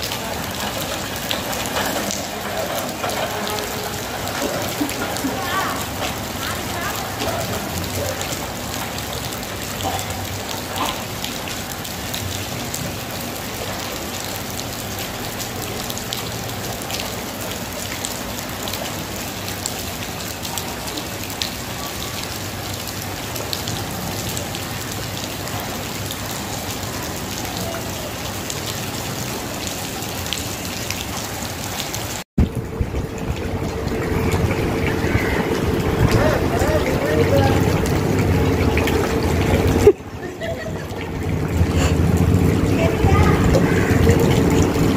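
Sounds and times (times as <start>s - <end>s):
rain falling on water: 0.0s - 44.9s.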